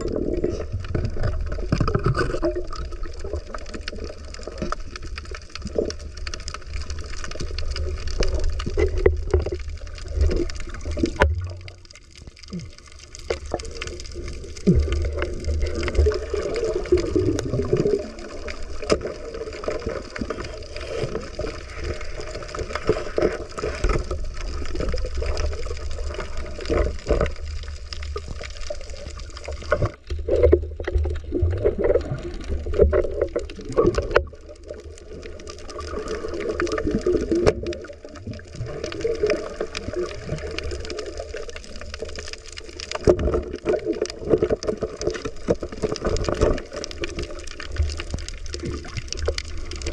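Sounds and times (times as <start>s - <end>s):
underwater gurgling and sloshing: 0.0s - 49.9s.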